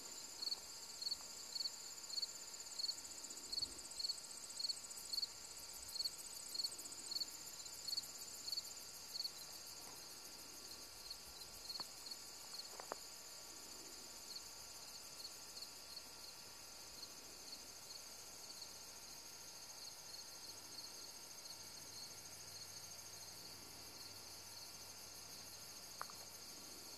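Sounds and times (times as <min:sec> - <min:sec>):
insect chirping: 0:00.0 - 0:26.9.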